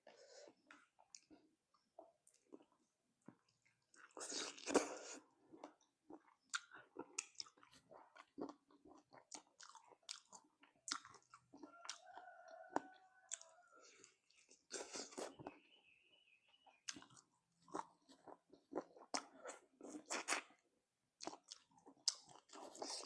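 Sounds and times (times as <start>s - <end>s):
wet chewing and crunching: 0.4s - 15.7s, 16.6s - 23.0s.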